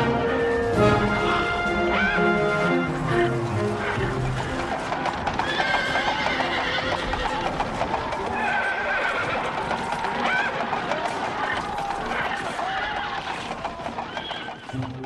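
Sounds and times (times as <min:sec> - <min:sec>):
hoofbeats: 0:00.0 - 0:15.0
music: 0:00.0 - 0:15.0
horses neighing: 0:00.9 - 0:15.0.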